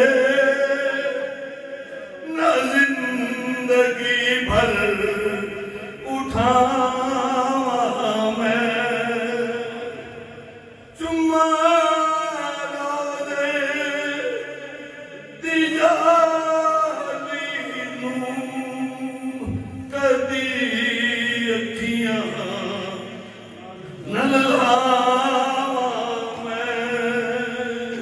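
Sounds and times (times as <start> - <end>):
man singing unaccompanied: 0.0 - 10.2, 10.9 - 28.0.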